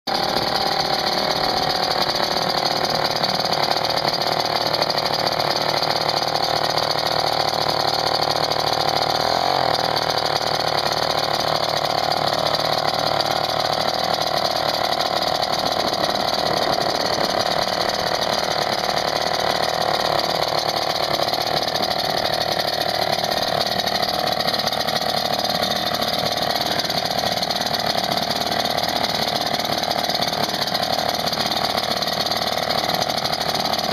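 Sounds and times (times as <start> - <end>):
two-stroke outboard motor running: 0.1 - 33.9.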